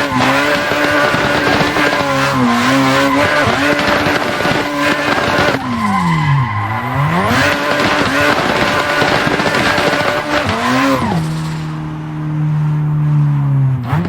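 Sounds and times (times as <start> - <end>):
tyres squealing: 0.0 - 11.8
car engine at high revs: 0.0 - 14.0.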